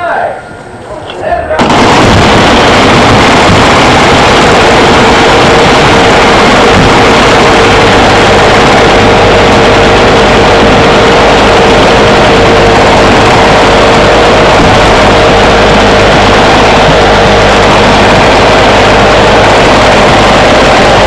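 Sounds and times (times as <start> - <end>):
machine guns firing: 1.6 - 21.0.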